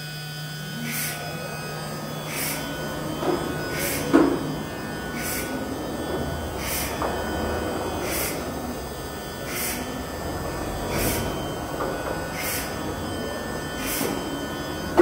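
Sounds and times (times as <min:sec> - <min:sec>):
cnc router humming: 0:00.0 - 0:15.0.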